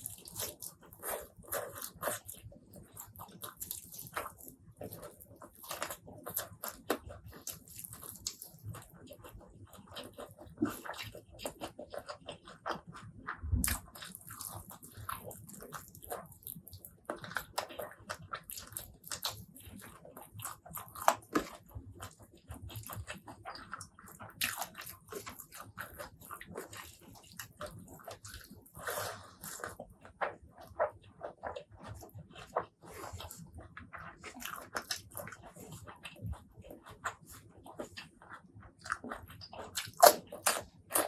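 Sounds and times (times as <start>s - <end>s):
wet chewing and crunching: 0.0s - 41.0s.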